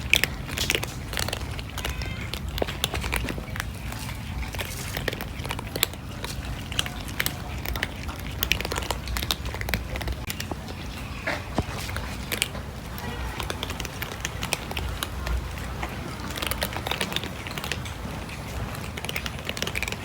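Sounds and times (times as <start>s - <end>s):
cats crunching food: 0.0s - 20.0s.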